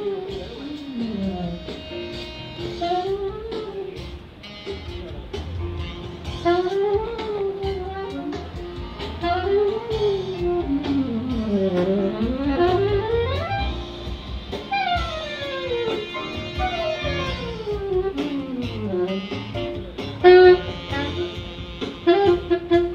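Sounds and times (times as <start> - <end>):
sliding lead melody: 0.0 - 22.9
steady bass line: 0.0 - 22.9.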